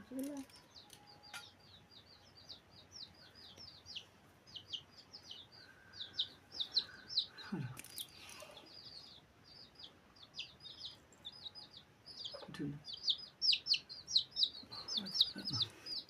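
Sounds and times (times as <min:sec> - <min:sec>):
rapid high chirping: 0:00.3 - 0:16.0.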